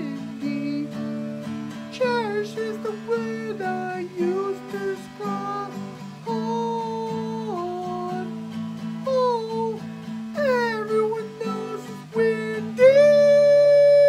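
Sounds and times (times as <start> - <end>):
man singing: 0.0 - 14.0
strummed acoustic guitar: 0.0 - 14.0.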